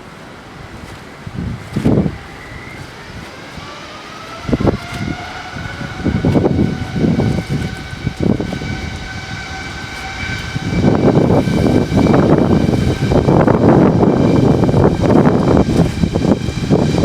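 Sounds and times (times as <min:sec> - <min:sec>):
wind buffeting microphone: 0:00.0 - 0:17.0
jet engines whining: 0:00.1 - 0:17.0.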